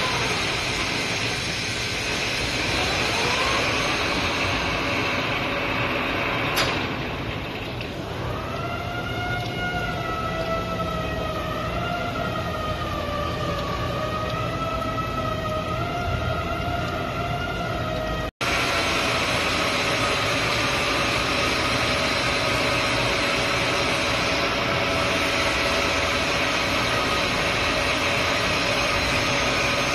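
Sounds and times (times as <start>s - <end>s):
steady machine noise: 0.0s - 29.9s
wavering whine: 0.0s - 29.9s.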